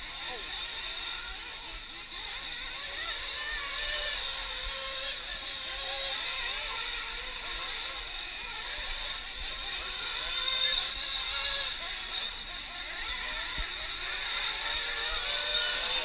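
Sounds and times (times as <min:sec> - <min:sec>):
rc truck engines buzzing: 0:00.0 - 0:16.0.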